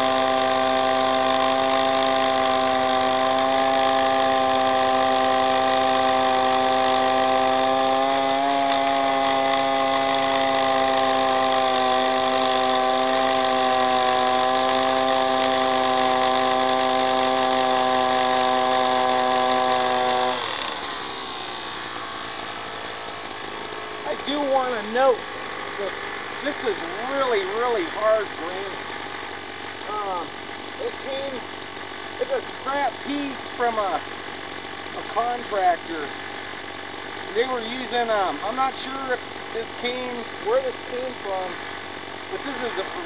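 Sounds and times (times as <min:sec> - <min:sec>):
gas rotary hammer drill drilling: 0:00.0 - 0:43.0.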